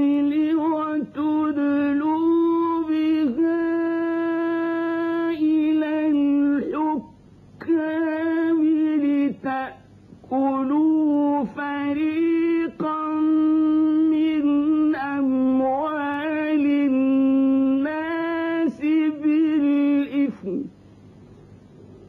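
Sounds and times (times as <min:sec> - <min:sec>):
man chanting melodically: 0:00.0 - 0:20.7.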